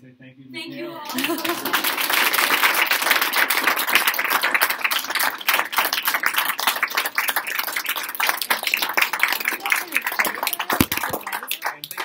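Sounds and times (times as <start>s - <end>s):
audience applauding: 1.0s - 12.0s
hands clapping close by: 1.1s - 12.0s.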